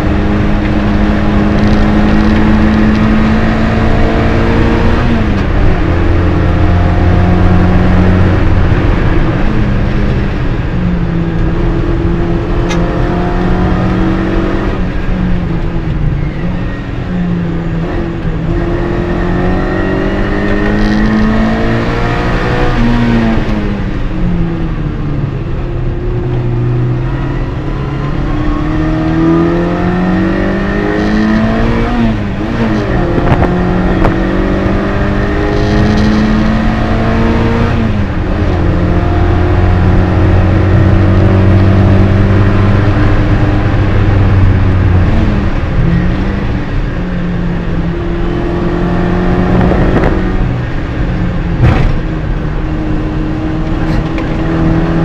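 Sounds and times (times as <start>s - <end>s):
race car engine changing gears: 0.0s - 24.7s, 25.4s - 55.0s.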